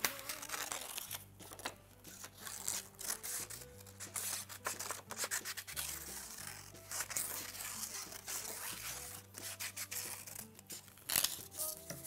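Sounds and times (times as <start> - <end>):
scissors snipping paper: 0.0 - 12.0
soft background music: 0.0 - 12.0.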